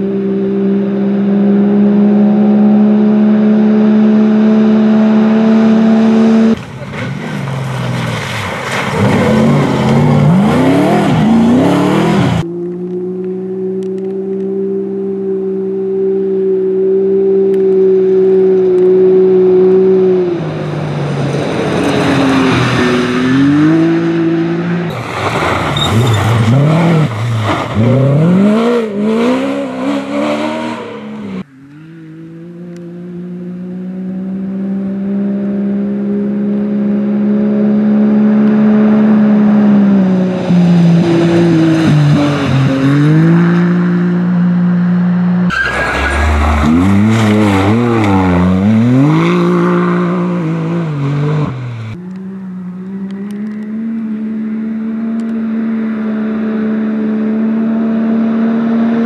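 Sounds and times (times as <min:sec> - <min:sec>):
off-road vehicle engines running: 0:00.0 - 0:59.0
engine revving unevenly: 0:08.7 - 0:59.0.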